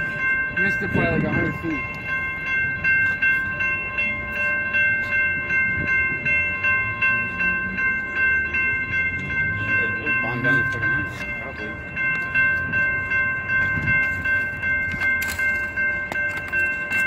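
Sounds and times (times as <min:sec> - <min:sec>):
crossing warning bell ringing: 0:00.0 - 0:17.0
freight train rumbling: 0:00.0 - 0:17.0.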